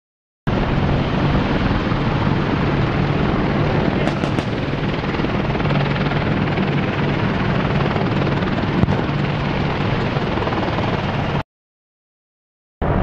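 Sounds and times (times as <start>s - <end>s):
helicopter flying past: 0.5s - 11.4s.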